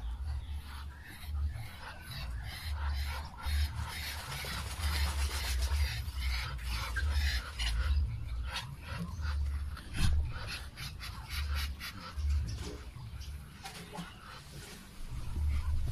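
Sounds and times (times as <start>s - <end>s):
low rumble: 0.0s - 15.9s
duck splashing in water: 1.1s - 15.7s.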